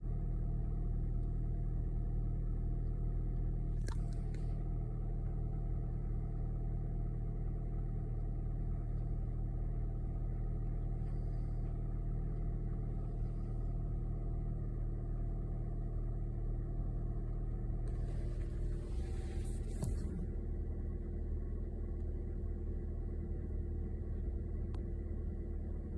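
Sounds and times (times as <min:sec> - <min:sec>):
car engine and road noise: 0:00.1 - 0:25.8.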